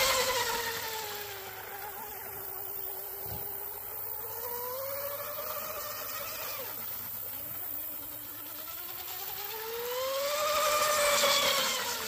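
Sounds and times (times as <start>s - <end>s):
electric motor whine of rc boat: 0.0s - 12.0s.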